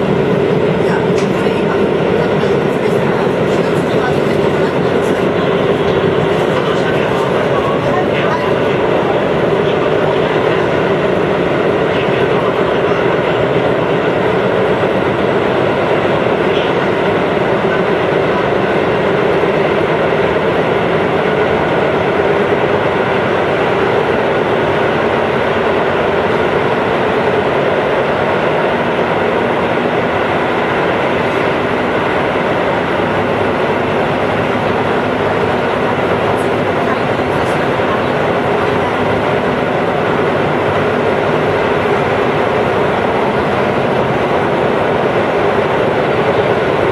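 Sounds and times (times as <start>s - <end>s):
electric train rolling: 0.0s - 46.9s.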